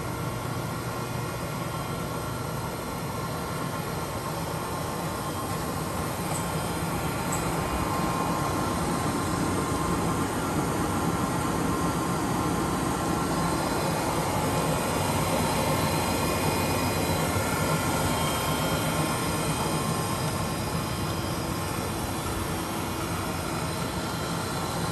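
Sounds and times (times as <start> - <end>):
boring mill running: 0.0 - 24.9
faint machine whine: 0.0 - 24.9.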